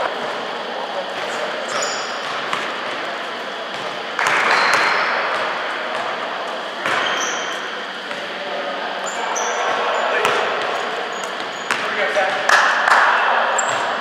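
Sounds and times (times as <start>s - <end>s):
rushes of crowd noise: 0.0s - 14.0s
sneaker squeaks: 1.1s - 8.3s, 9.0s - 12.5s, 13.5s - 14.0s.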